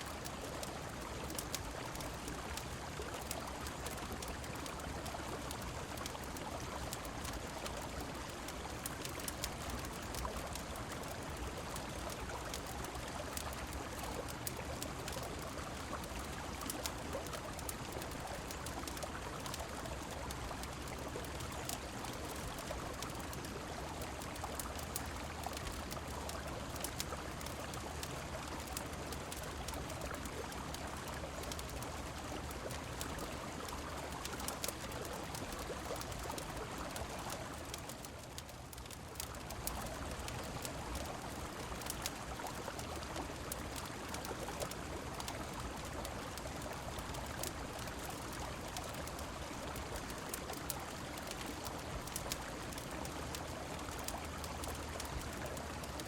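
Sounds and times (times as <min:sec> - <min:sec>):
rain falling: 0:00.0 - 0:56.0
river flowing: 0:00.0 - 0:56.0
fireplace crackling: 0:00.1 - 0:55.9.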